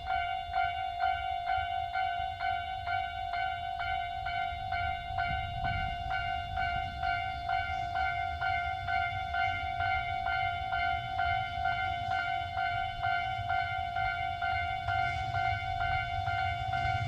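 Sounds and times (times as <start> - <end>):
level-crossing electronic bell: 0.0 - 17.0
train low rumble: 0.0 - 17.0.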